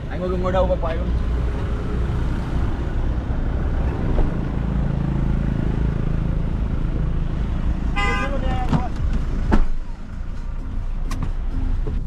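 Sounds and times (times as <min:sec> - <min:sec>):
car engine and road noise rumble: 0:00.0 - 0:12.0
steady engine hum: 0:00.0 - 0:12.0.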